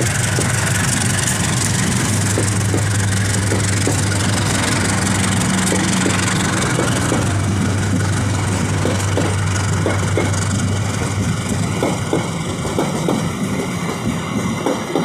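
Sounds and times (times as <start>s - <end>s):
diesel locomotive engine hum: 0.0s - 15.0s
train wheels clacking on rails: 0.0s - 15.0s.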